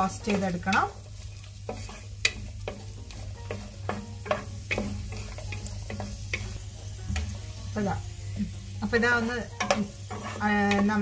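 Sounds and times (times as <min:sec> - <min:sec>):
spoon scraping a pan: 0:00.0 - 0:07.6, 0:08.4 - 0:11.0
nuts frying in a pan: 0:00.0 - 0:11.0.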